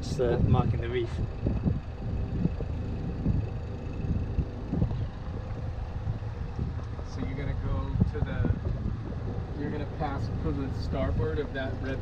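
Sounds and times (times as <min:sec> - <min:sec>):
boat engine hum: 0:00.0 - 0:12.0
wind buffeting microphone: 0:00.0 - 0:12.0.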